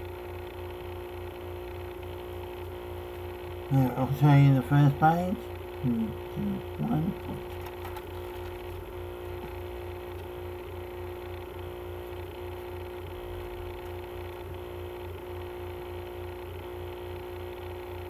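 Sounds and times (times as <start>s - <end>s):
pulsing electrical hum: 0.0s - 18.0s.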